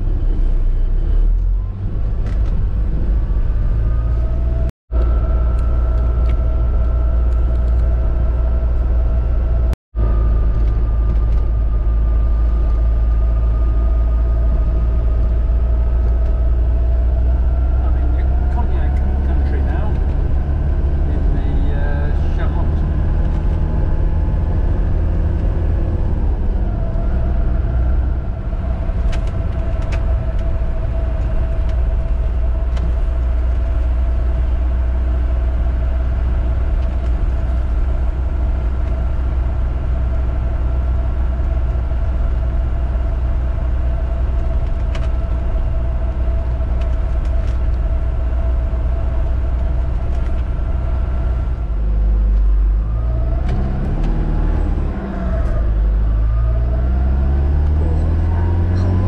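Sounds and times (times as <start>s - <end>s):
engine and road rumble: 0.0s - 59.0s
steady humming tone: 3.4s - 54.0s.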